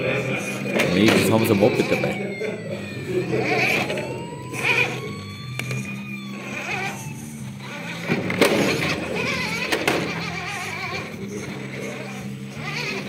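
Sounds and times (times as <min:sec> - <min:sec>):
electric motor and gearbox whining: 0:00.0 - 0:13.0.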